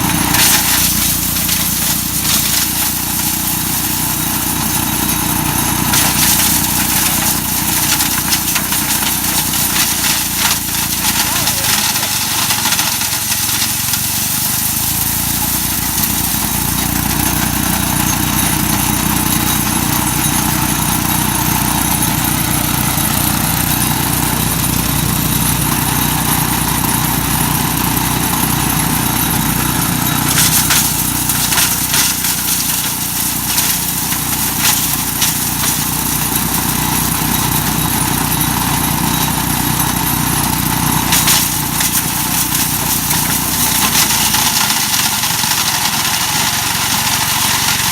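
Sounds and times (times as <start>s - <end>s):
wood chipper running: 0.0s - 47.9s.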